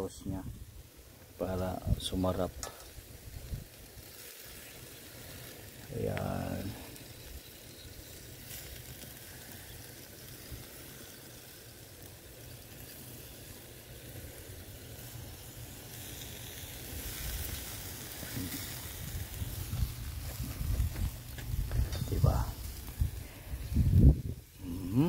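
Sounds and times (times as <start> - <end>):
meat sizzling on a grill: 0.0 - 25.0.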